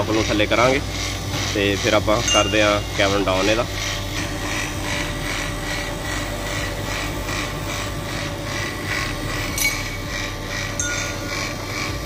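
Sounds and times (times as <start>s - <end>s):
vacuum pump humming: 0.0s - 12.0s.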